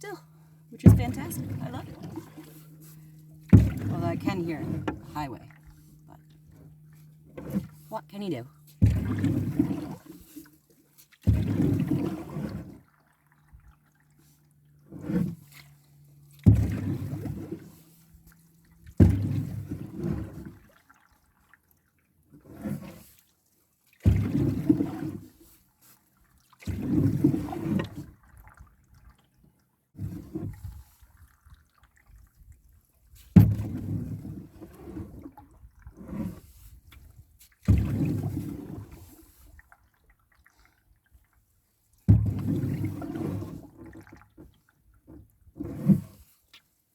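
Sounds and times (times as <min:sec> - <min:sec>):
water sloshing against canoe: 0:00.0 - 0:46.9.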